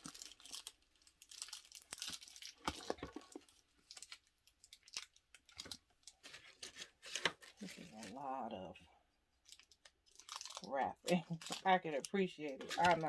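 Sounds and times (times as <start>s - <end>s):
plastic wrapping crinkling: 0.0s - 8.4s, 9.4s - 13.0s.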